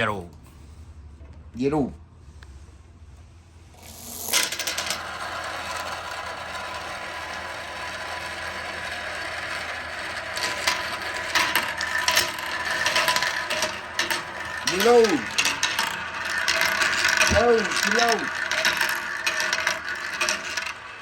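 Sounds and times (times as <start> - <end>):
balls rattling down wooden slopes: 3.7 - 21.0.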